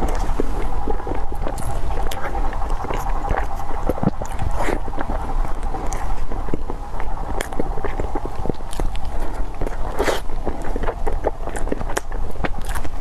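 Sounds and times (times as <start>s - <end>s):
chewing sticky sweet: 0.0s - 13.0s
low rumble: 0.0s - 13.0s
wet mouth clicks and smacks: 0.0s - 13.0s.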